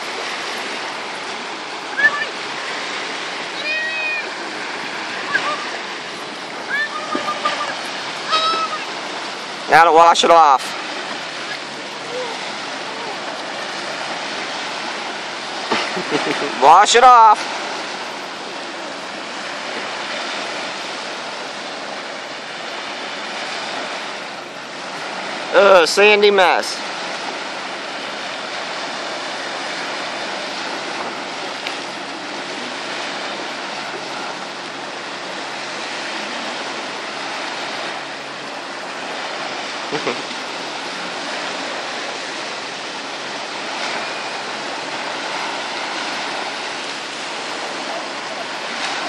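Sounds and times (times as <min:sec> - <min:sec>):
lake waves washing onto pebbles: 0:00.0 - 0:49.0.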